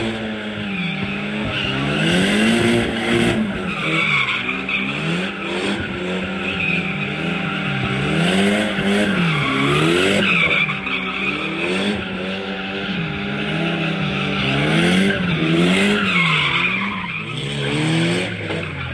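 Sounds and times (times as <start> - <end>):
car engine revving: 0.0 - 18.9
tyres screeching: 0.7 - 18.9.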